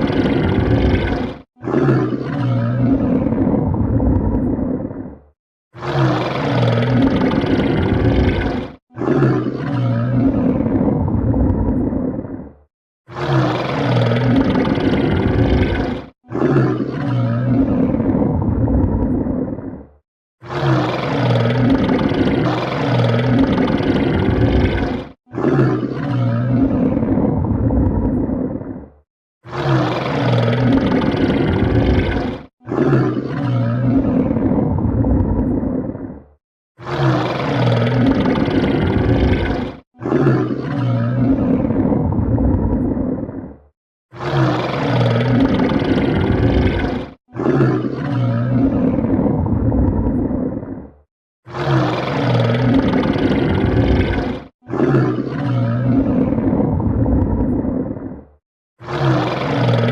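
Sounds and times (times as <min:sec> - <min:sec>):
stomach growling: 0:00.0 - 0:59.9.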